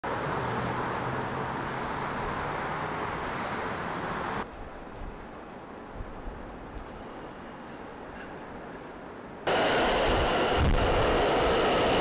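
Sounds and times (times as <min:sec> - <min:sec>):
subway train rushing: 0:00.1 - 0:04.4, 0:06.5 - 0:12.0.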